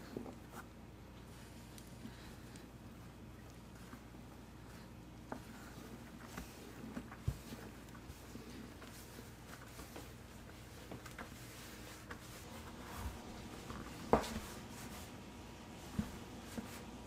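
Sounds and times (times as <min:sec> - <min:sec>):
faint low steady hum: 0:00.0 - 0:17.0.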